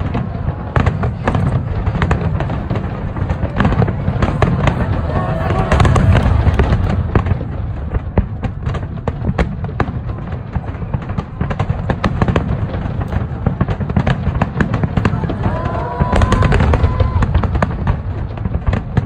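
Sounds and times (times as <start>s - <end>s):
firework bangs and crackling pops: 0.0s - 19.0s
firework shells booming: 0.0s - 19.0s.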